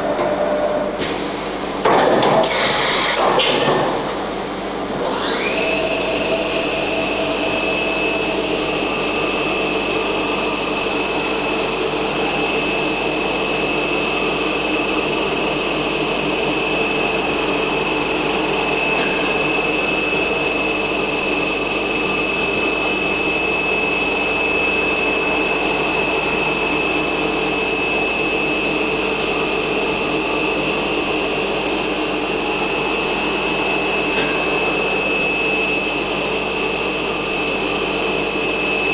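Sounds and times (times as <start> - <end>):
machine running noise: 0.0 - 38.9
machine spindle whine: 4.0 - 38.9.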